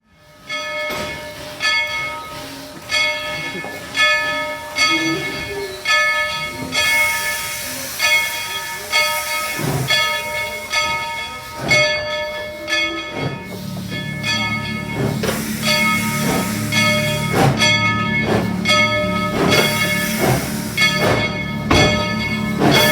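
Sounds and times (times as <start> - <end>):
locomotive bell ringing: 0.0 - 22.9
steam hissing: 1.1 - 22.9.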